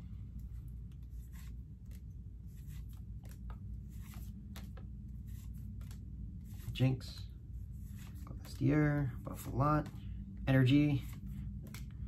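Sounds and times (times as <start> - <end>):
low steady hum: 0.0 - 12.0
trading cards scraping: 0.9 - 12.0.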